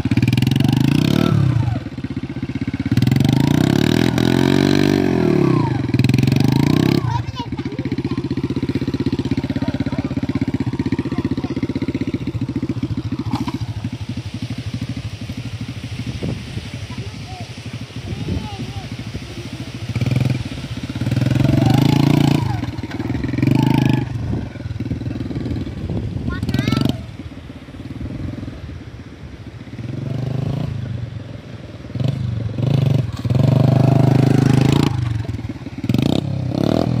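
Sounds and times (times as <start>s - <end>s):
small motorcycle engine running: 0.0s - 37.0s.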